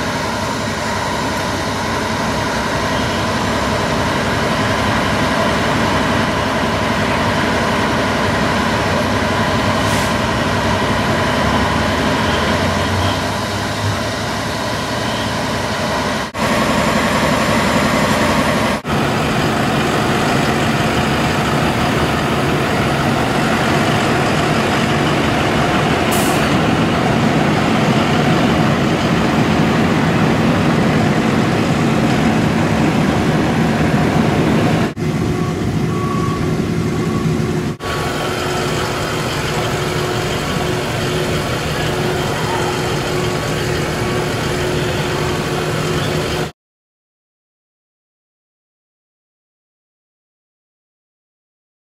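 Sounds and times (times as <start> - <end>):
diesel engines idling: 0.0 - 46.5.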